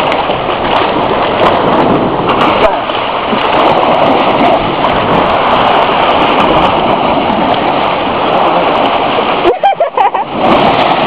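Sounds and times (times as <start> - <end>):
fast-flowing water rushing: 0.0 - 11.0
person wading through water: 0.0 - 11.0.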